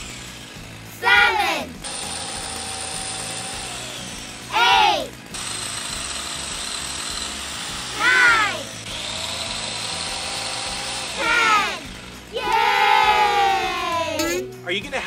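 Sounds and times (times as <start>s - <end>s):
electric chainsaw cutting branches: 0.0s - 12.7s
background music: 0.0s - 15.0s.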